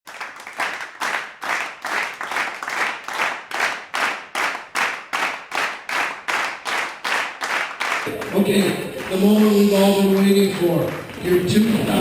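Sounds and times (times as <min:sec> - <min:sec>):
crowd clapping in rhythm: 0:00.0 - 0:12.0.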